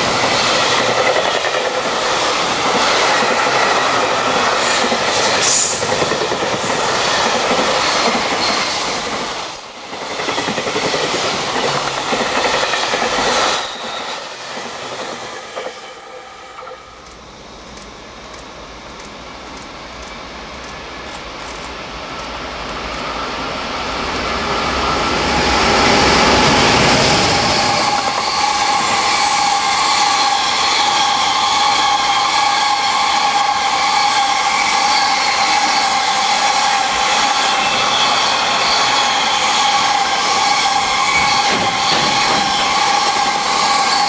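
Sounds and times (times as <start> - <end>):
freight train passing: 0.0 - 44.0.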